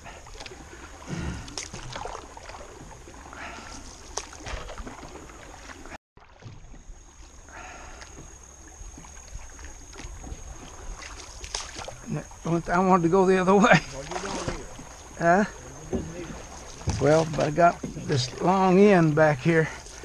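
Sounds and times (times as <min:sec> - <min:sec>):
water sounds: 0:00.0 - 0:20.0.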